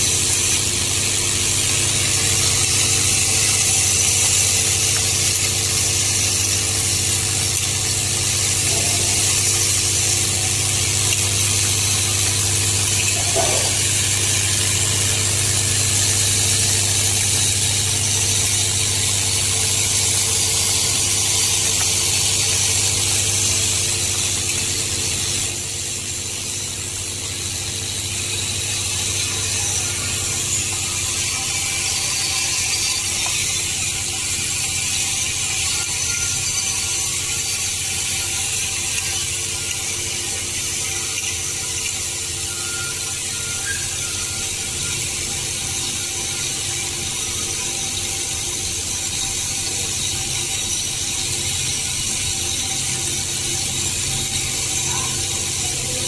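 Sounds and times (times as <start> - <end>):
metal bolts rattling in a bowl: 0.0 - 56.0
vibratory feeder humming: 0.0 - 56.0.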